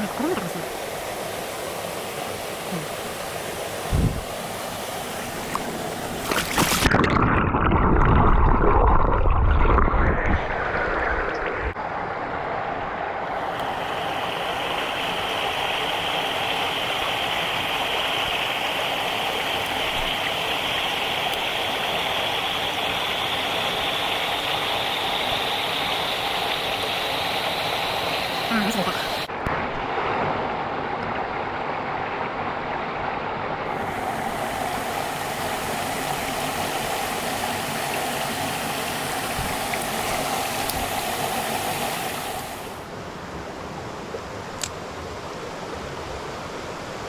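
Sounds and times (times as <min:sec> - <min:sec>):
mountain stream rushing: 0:00.0 - 0:07.2, 0:11.6 - 0:44.0.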